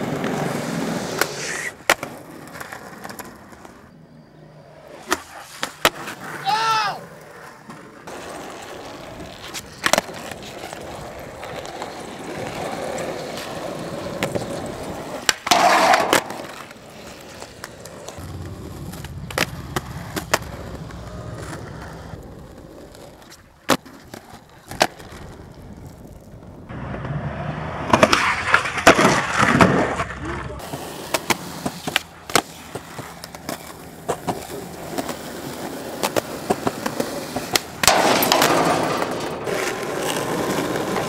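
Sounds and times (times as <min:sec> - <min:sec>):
skateboard clacking on ground: 0:00.0 - 0:03.9, 0:04.8 - 0:41.0
skateboard wheels rolling on concrete: 0:00.0 - 0:41.0.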